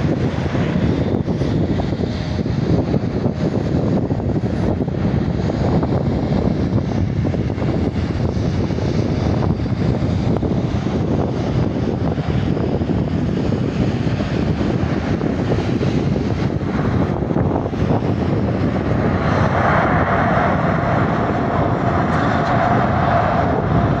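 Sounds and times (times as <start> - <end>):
jet engines rumbling: 0.0 - 24.0
rushing sound with whine: 0.0 - 24.0.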